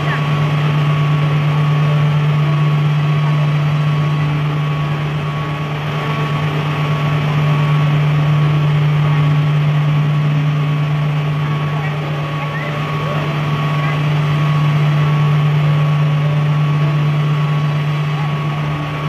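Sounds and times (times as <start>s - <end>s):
low machine drone: 0.0s - 19.0s.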